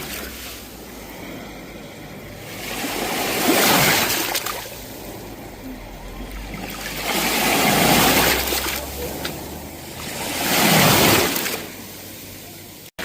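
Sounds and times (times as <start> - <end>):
sea waves breaking on shore: 0.0 - 12.3.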